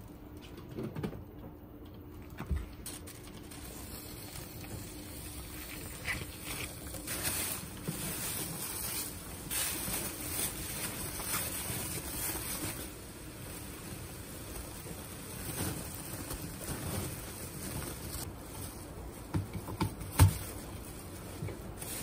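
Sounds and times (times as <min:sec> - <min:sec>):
wet plastic bag crinkling: 0:02.8 - 0:22.0.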